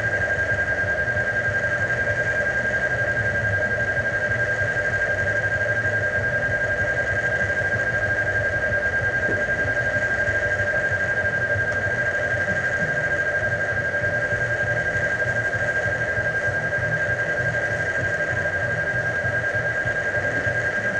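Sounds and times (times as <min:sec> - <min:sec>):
low hum: 0:00.0 - 0:20.9
pulsing high-pitched buzzing tone: 0:00.0 - 0:20.9.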